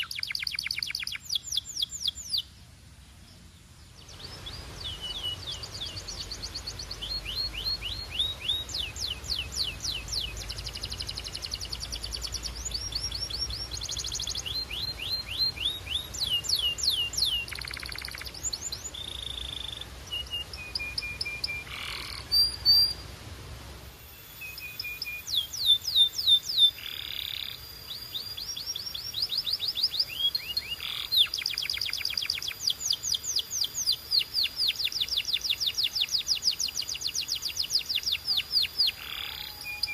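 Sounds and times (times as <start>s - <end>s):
canary singing trills: 0.0s - 2.5s, 3.9s - 23.0s, 24.0s - 39.9s.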